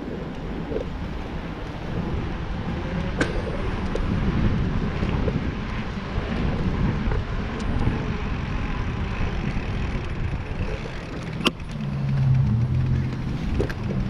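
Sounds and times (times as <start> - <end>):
low motor vehicle hum: 0.0 - 14.0
road noise: 0.0 - 14.0
wind from bicycle ride: 0.0 - 14.0.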